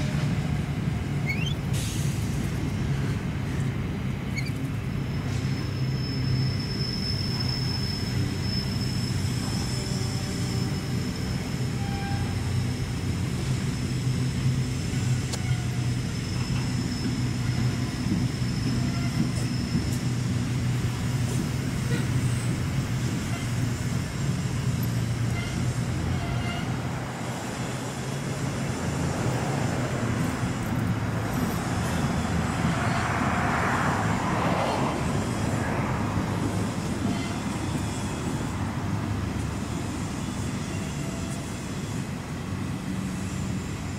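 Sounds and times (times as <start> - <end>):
rushing noise: 0.0 - 43.9
train wagons rumbling: 0.0 - 43.9
high wheel squeal: 1.1 - 2.1, 4.2 - 38.7, 39.4 - 42.2.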